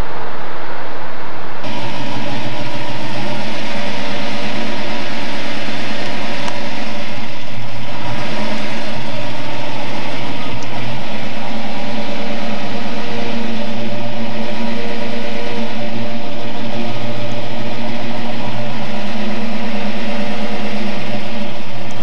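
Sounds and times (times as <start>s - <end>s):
car engine idling: 1.6s - 22.0s.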